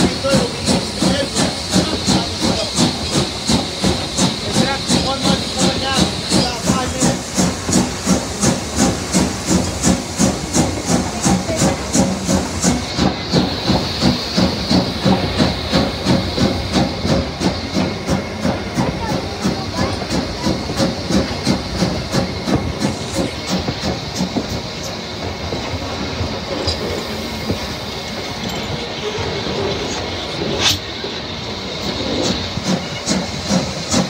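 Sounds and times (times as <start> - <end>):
steam hiss: 0.0 - 34.0
steam locomotive chuffing: 0.0 - 34.0.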